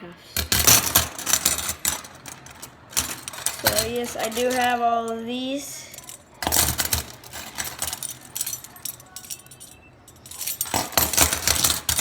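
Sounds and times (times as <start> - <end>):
metal handcuffs clinking: 0.4 - 5.2, 5.8 - 12.0.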